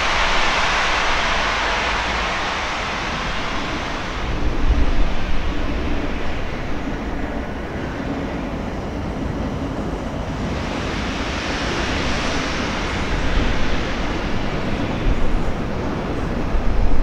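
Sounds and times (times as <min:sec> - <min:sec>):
steam hissing: 0:00.0 - 0:08.2, 0:10.3 - 0:17.0
steam locomotive rumble: 0:00.0 - 0:17.0.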